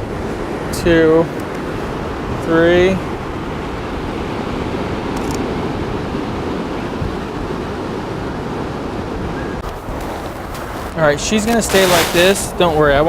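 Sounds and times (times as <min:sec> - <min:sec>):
ocean surf: 0:00.0 - 0:13.0
wind noise on microphone: 0:00.0 - 0:13.0.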